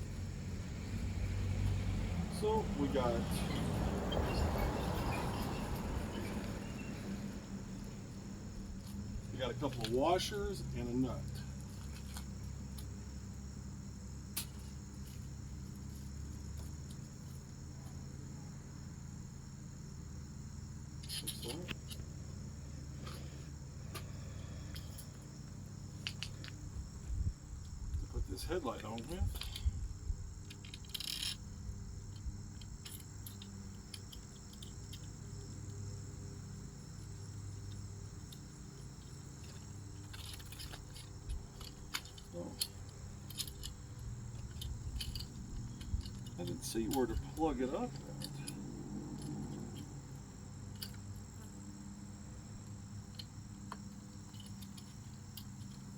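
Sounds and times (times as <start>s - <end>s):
crickets chirring: 0.0s - 55.9s
steady background hum: 0.0s - 55.9s.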